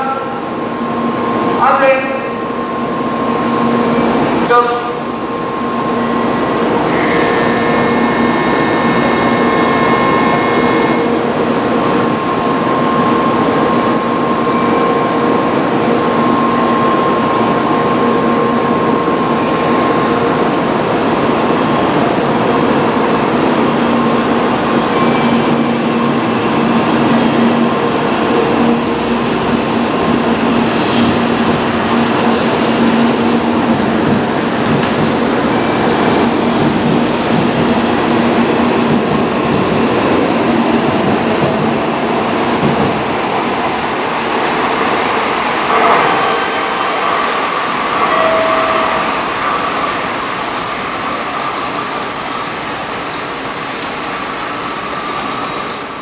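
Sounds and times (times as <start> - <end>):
train electrical hum: 0.0 - 56.0.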